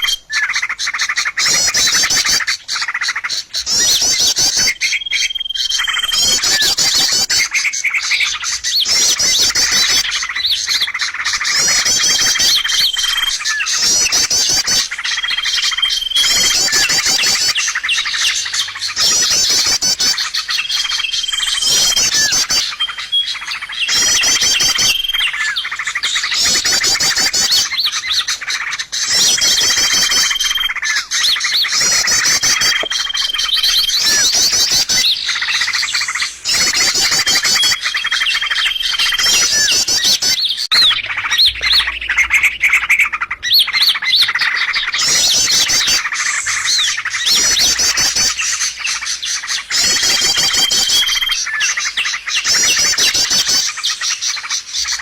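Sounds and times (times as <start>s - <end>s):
held bird whistle: 0.0s - 55.0s
high bird trills: 0.0s - 55.0s
songbirds chirping: 0.0s - 55.0s.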